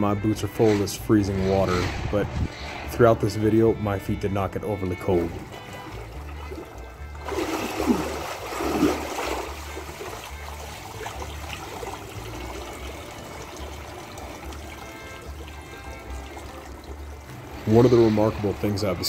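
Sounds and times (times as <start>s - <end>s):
big water splashes: 0.0s - 19.0s
water trickling and dripping: 3.6s - 19.0s.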